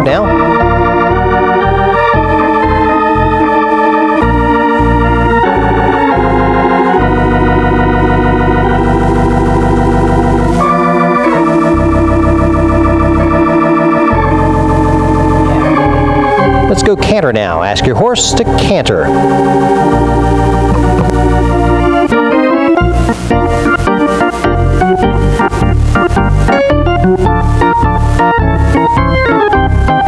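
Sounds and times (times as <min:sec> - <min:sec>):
organ chords: 0:00.0 - 0:30.0.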